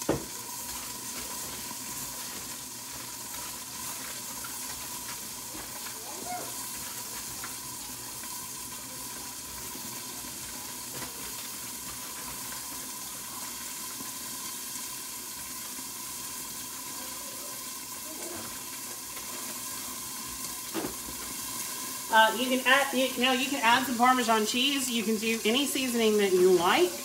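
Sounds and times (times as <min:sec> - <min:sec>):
chicken sizzling in skillet: 0:00.0 - 0:27.0.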